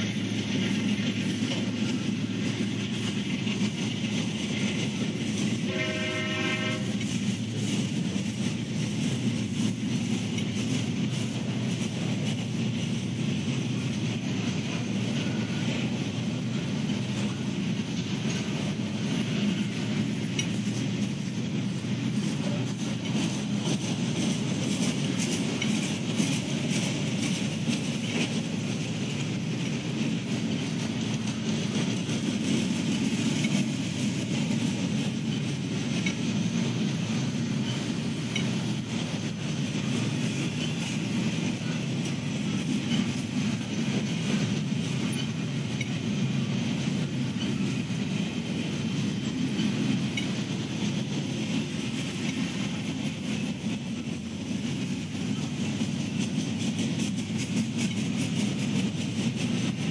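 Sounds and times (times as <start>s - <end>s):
train wheels on rail: 0.0s - 59.9s.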